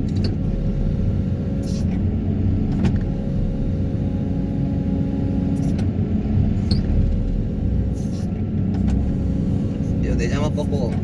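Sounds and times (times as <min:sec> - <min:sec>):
excavator engine and hydraulics drone: 0:00.0 - 0:11.0.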